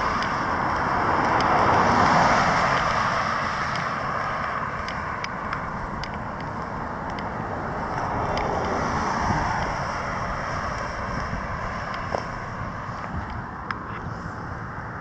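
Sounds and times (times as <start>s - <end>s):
car passing close by: 0.0s - 15.0s
hiss of distant cars: 0.0s - 15.0s.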